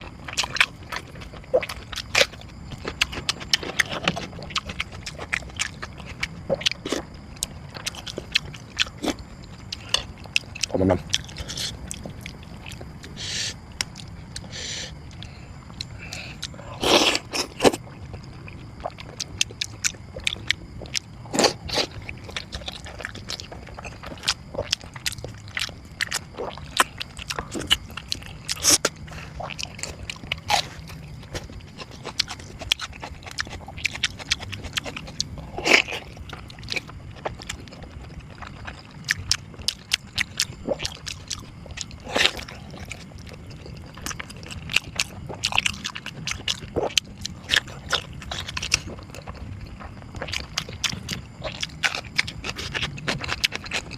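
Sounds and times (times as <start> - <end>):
crunchy chewing: 0.0 - 53.9.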